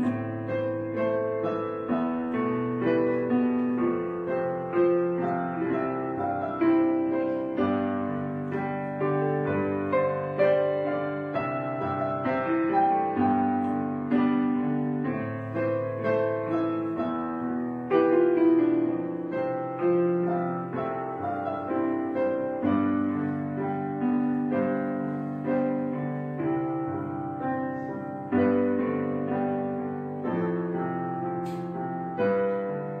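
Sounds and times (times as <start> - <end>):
slow gentle piano music: 0.0 - 33.0.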